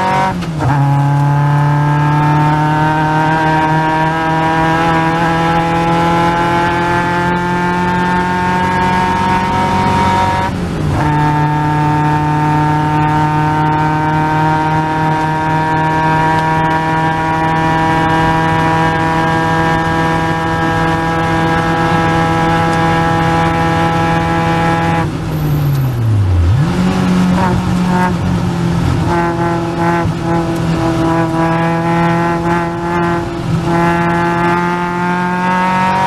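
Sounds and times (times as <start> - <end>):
racing engine at full throttle: 0.0 - 36.0.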